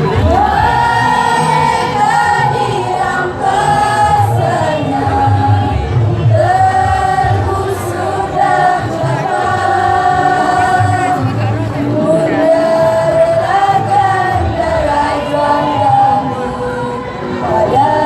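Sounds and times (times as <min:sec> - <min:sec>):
choir singing long notes: 0:00.0 - 0:18.0
low accompaniment: 0:00.0 - 0:18.0.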